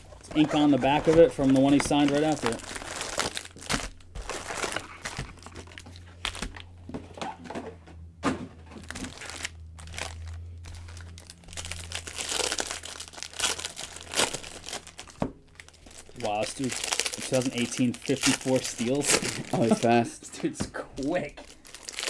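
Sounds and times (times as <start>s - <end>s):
foil wrappers crinkling: 0.0s - 6.8s, 8.8s - 20.1s, 21.4s - 22.0s
low steady hum: 0.0s - 22.0s.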